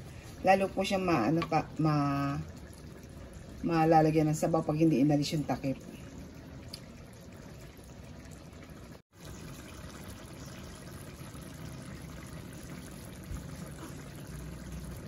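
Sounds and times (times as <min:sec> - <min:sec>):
stew bubbling in a wok: 0:00.0 - 0:15.0.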